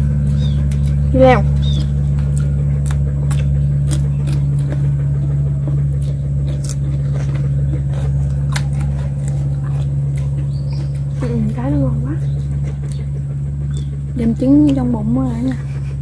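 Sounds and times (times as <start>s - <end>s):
low motor hum: 0.0s - 16.0s
people eating crunchily: 0.0s - 16.0s.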